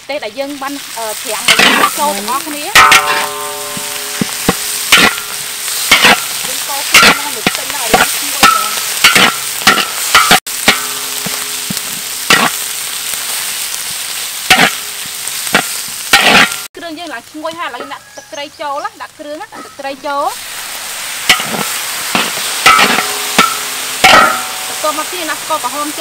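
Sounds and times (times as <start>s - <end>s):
frying sizzle: 0.0s - 26.0s
metal spatula scraping wok: 0.6s - 16.7s, 19.6s - 26.0s
wok ringing: 0.6s - 16.7s, 17.7s - 26.0s.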